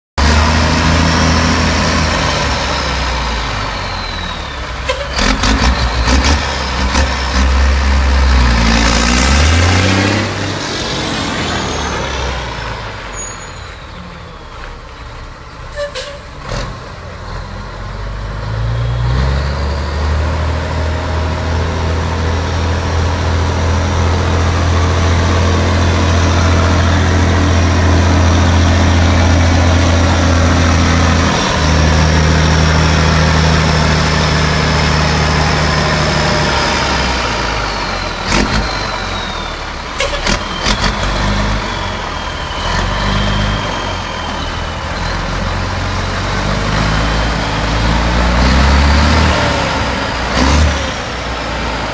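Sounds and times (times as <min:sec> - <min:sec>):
truck diesel engine revving: 0:00.2 - 0:51.9.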